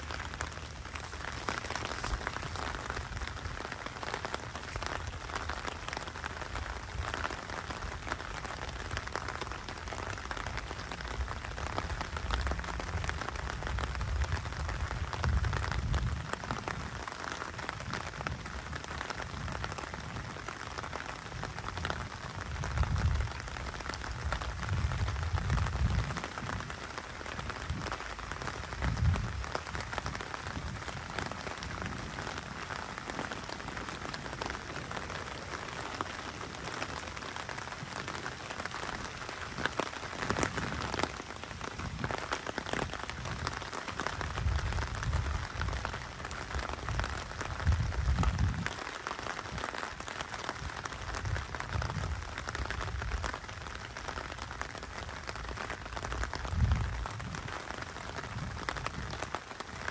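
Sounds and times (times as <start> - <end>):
rain on wet pavement: 0.0 - 59.9.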